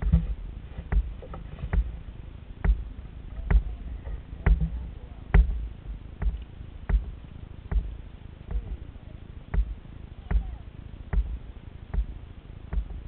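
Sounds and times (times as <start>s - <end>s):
hollow knocks on plastic hull: 0.0s - 2.0s, 2.6s - 3.8s, 4.4s - 8.8s, 9.5s - 13.0s
low steady rumble: 0.0s - 13.0s.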